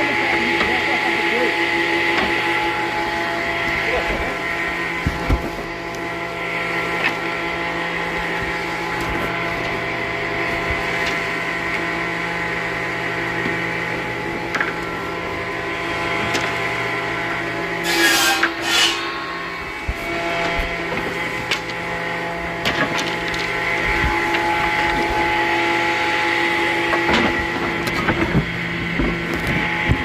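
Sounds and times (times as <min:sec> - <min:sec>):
woodworking machinery motor hum: 0:00.0 - 0:30.0.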